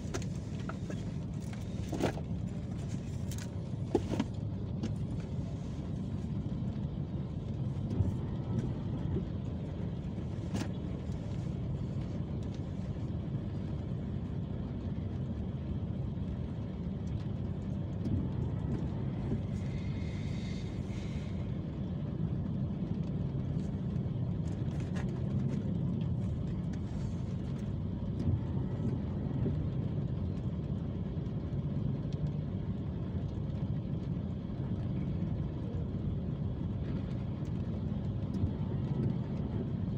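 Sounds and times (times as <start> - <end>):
idling traffic engine rumble: 0.0 - 39.9.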